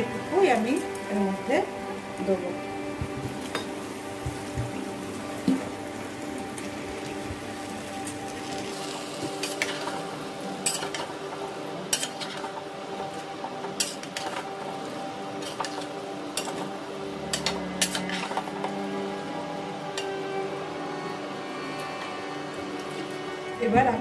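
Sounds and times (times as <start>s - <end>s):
light sizzle: 0.0s - 24.0s.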